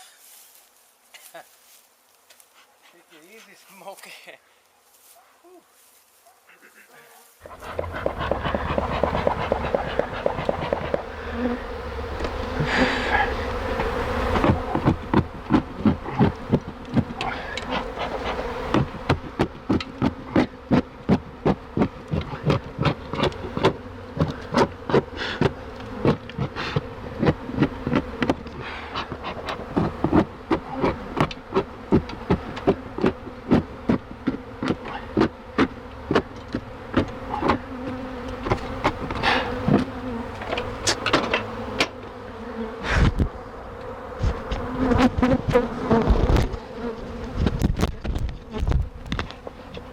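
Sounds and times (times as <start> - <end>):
bees buzzing: 6.5 - 49.9.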